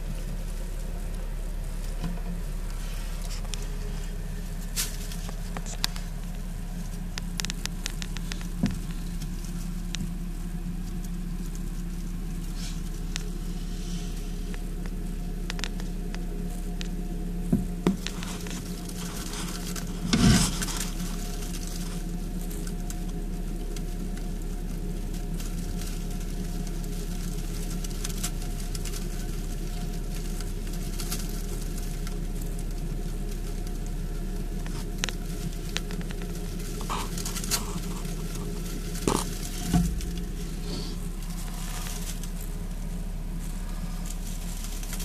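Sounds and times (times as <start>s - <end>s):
shredded paper bedding rustling: 0.0s - 45.0s
steady low hum: 0.0s - 45.0s.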